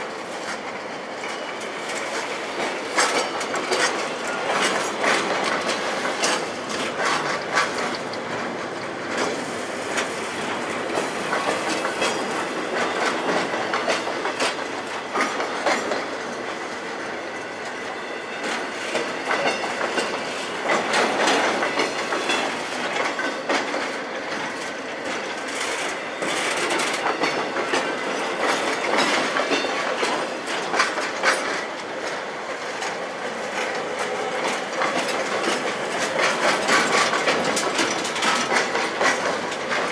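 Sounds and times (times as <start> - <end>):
wheels clicking over rail joints: 0.3 - 39.9.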